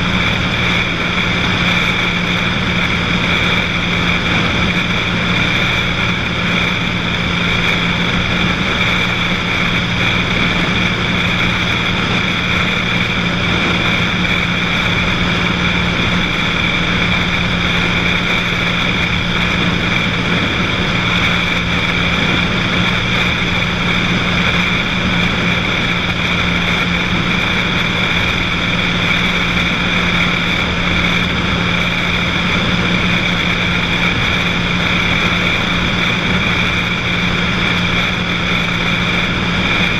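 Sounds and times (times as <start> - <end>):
air noise: 0.0 - 39.9
propeller plane engine drone: 0.0 - 39.9.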